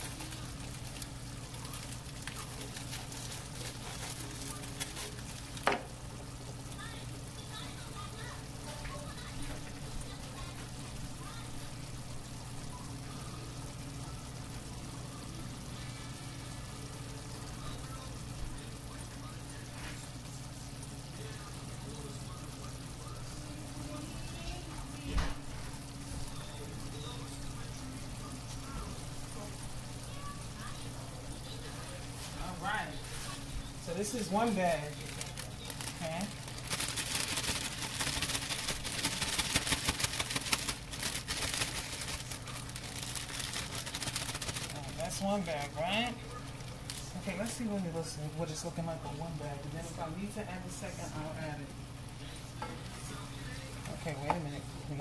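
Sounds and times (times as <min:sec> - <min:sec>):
low even hum: 0:00.0 - 0:55.0
sauce simmering in a frying pan: 0:00.0 - 0:55.0.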